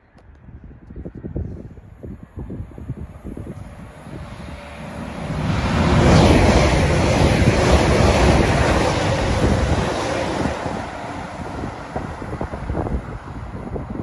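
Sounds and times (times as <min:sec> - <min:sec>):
wind buffeting microphone: 0:00.0 - 0:14.0
train passing at speed: 0:01.1 - 0:14.0.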